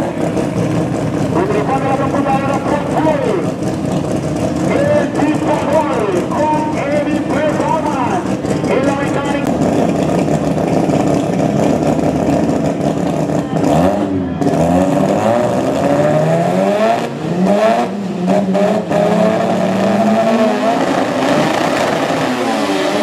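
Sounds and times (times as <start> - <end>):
drag race cars revving: 0.0 - 23.0.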